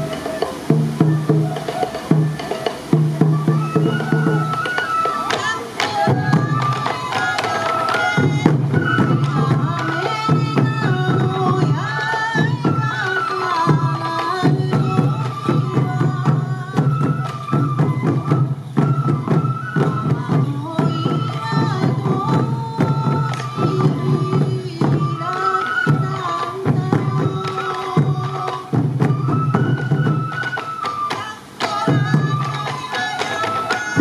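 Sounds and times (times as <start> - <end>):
bamboo flute melody: 0.0 - 34.0
taiko drums beating: 0.0 - 34.0.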